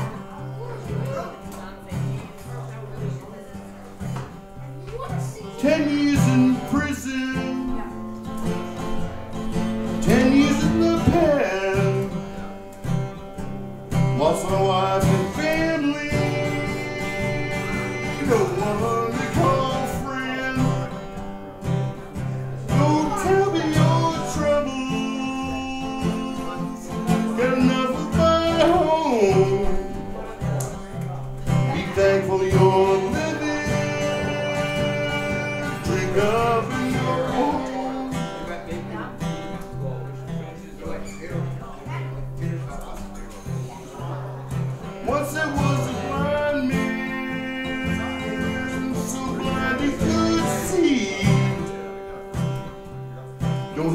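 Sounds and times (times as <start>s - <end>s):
country band playing: 0.0s - 53.9s
strummed guitar: 0.0s - 53.9s.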